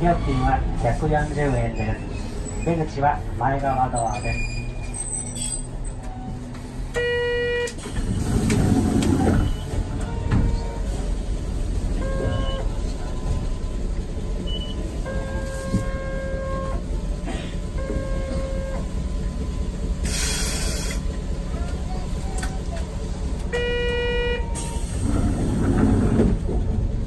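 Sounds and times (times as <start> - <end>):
tram low hum: 0.0 - 27.0.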